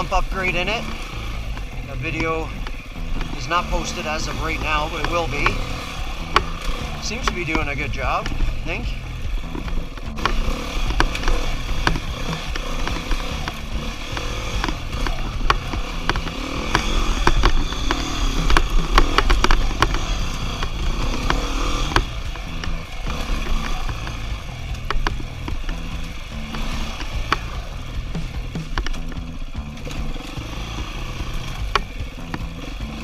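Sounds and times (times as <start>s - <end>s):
dirt bike engine revving: 0.0s - 33.0s
knocks and clatter: 0.1s - 33.0s.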